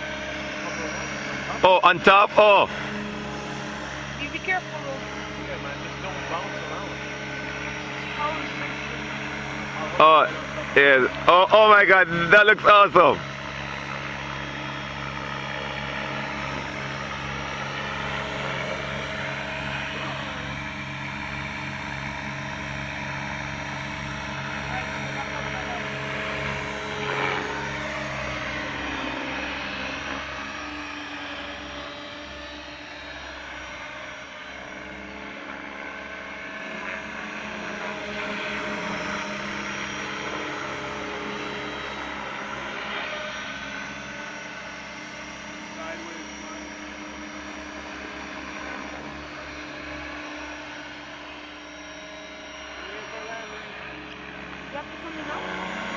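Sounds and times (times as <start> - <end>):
model helicopter rotors whining: 0.0 - 55.9.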